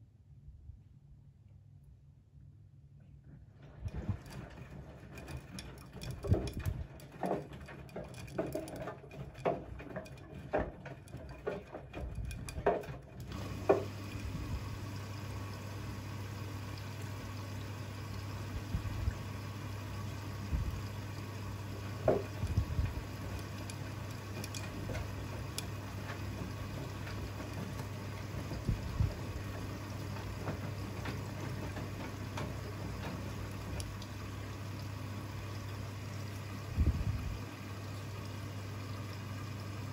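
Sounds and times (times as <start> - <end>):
washing machine hum: 1.6 - 39.9
laundry splashing and knocking: 3.6 - 39.9.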